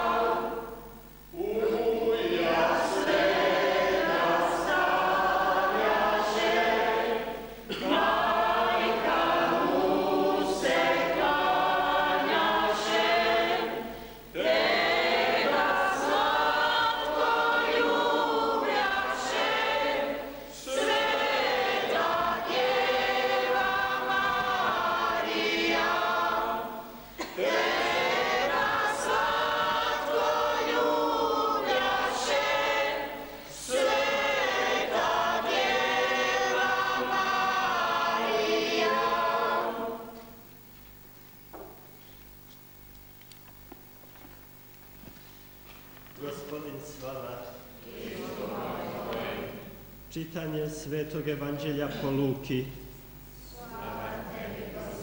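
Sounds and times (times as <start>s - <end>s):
congregation singing a hymn: 0.0s - 40.6s, 46.2s - 52.8s, 53.4s - 55.0s.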